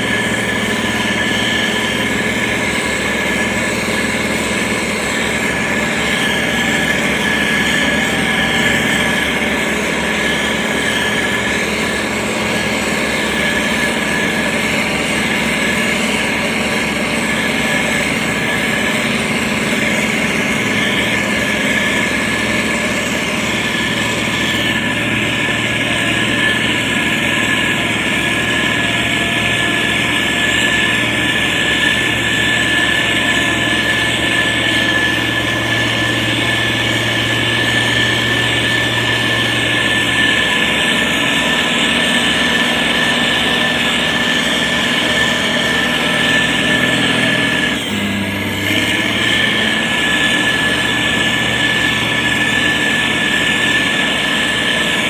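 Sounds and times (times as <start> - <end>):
constant high whine: 0.0 - 55.0
diesel engine running: 0.0 - 55.0.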